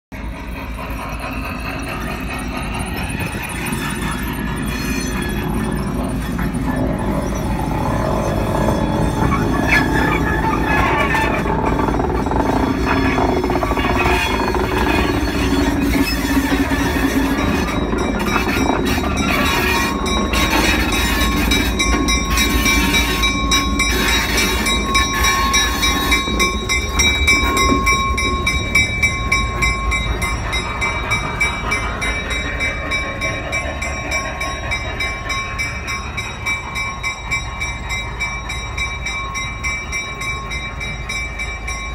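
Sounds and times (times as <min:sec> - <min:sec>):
diesel locomotive engine rumble: 0:00.1 - 0:41.9.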